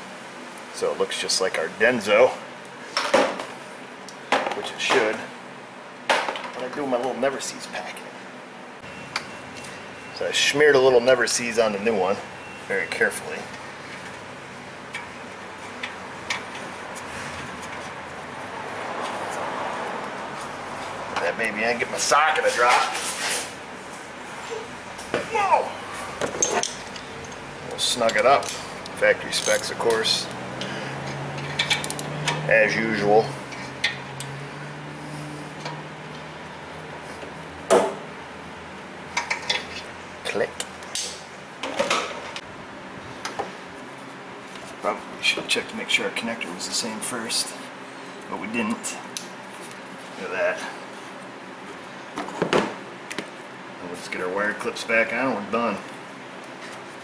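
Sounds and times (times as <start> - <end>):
workshop background noise: 0.0 - 57.0.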